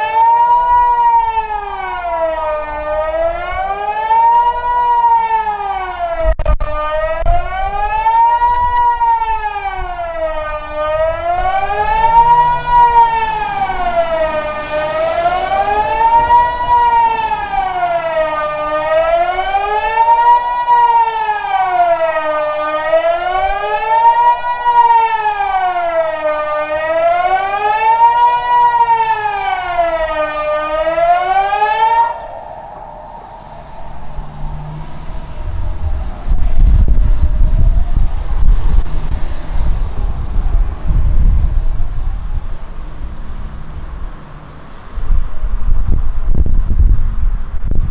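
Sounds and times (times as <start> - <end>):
wailing electronic siren: 0.0 - 39.1.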